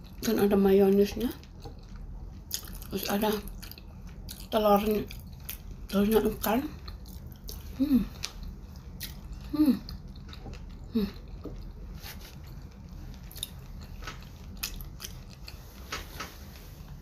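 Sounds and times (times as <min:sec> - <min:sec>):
wet chewing with mouth clicks: 0:01.4 - 0:16.0.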